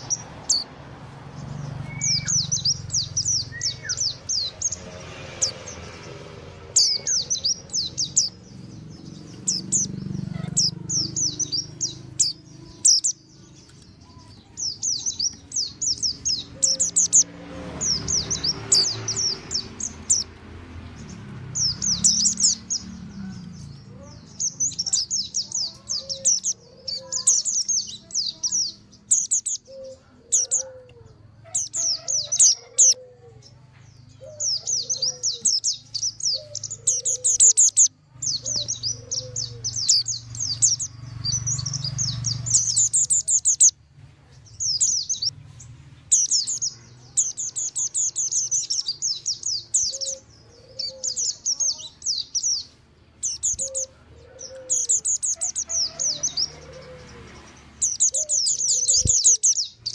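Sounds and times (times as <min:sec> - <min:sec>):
high twittering bird chirps: 0:00.0 - 0:43.8, 0:44.4 - 0:59.9.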